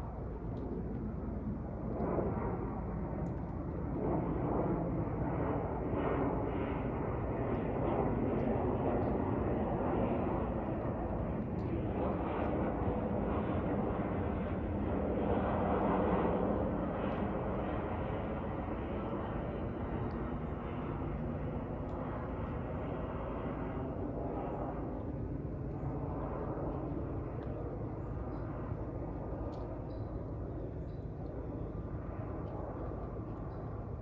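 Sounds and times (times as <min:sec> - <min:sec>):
jet airliner engines rumbling: 0:00.0 - 0:34.0.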